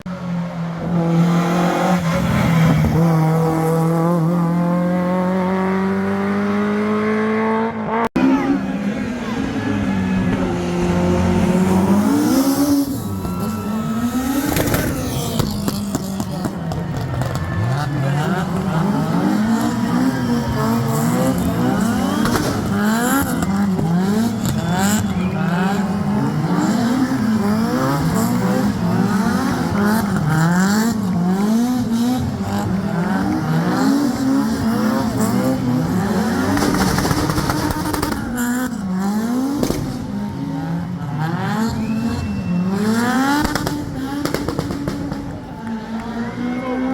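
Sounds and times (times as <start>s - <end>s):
rally car engine revving hard: 0.2s - 45.6s.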